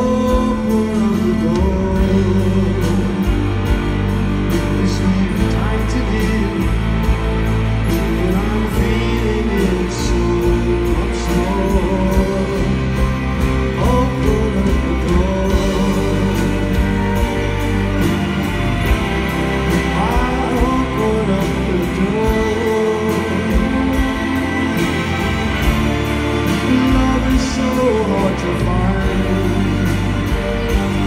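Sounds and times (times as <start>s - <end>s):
live rock band playing: 0.0s - 31.0s
man singing: 0.0s - 31.0s.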